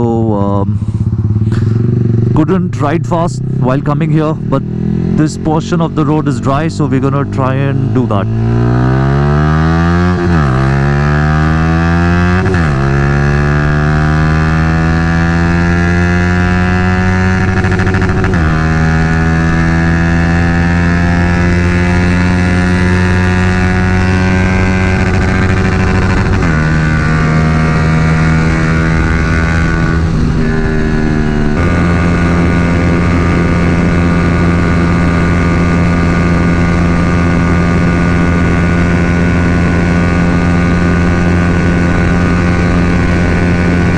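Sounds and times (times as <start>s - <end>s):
motorcycle engine revving hard: 0.8s - 43.9s.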